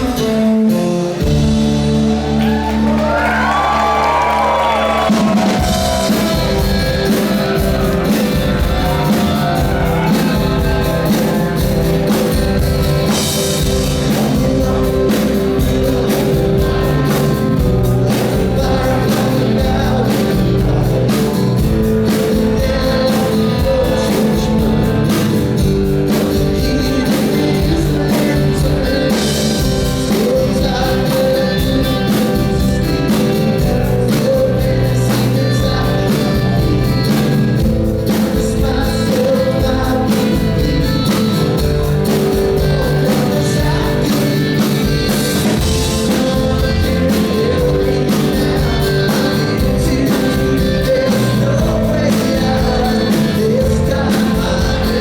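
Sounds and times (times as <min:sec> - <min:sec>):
drums steady beat: 0:00.0 - 0:55.0
rock band playing live: 0:00.0 - 0:55.0.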